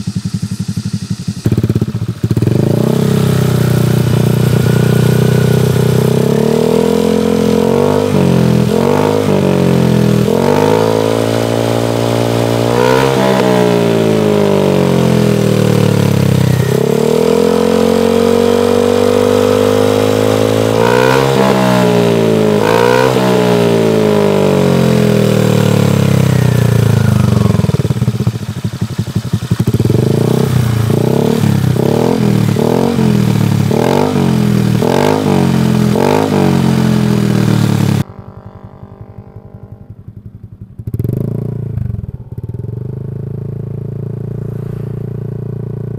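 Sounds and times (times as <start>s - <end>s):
scooter engine revving: 0.0s - 45.9s.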